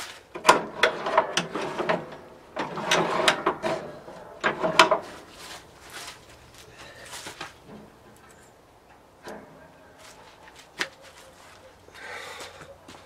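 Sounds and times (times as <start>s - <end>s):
metal clanking and rattling: 0.0s - 10.5s.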